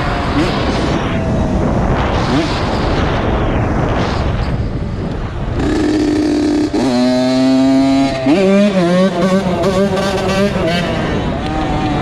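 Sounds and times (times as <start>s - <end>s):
two-stroke motorcycle engine buzzing: 0.0s - 3.2s, 5.0s - 12.0s
wind rush: 0.0s - 12.0s.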